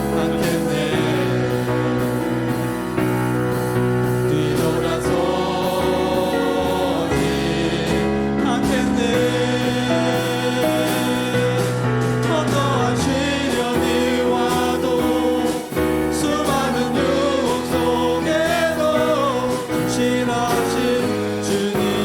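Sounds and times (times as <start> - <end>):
held accompaniment chords: 0.0 - 22.0
sung melody: 0.0 - 22.0.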